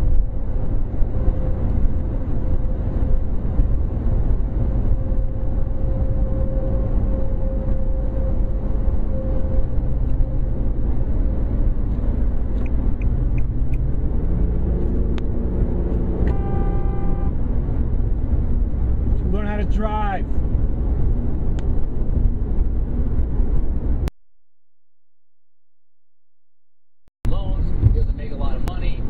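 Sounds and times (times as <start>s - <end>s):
car road and engine rumble: 0.0s - 24.1s, 27.3s - 29.0s.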